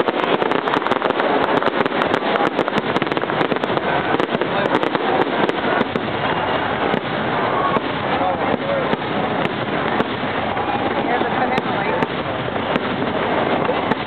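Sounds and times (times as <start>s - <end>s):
fireworks crackling and banging: 0.0s - 14.0s.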